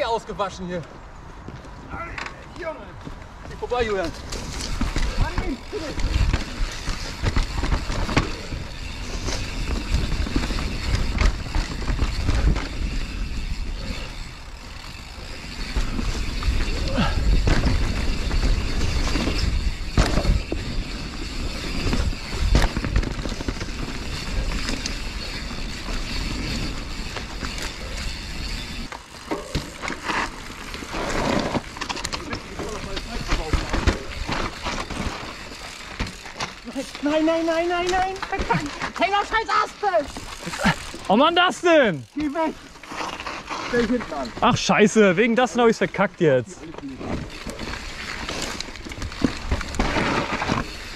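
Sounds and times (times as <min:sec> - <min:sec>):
bike tyres on loose dirt: 0:00.0 - 0:50.9
bike rattling over bumps: 0:02.0 - 0:50.9.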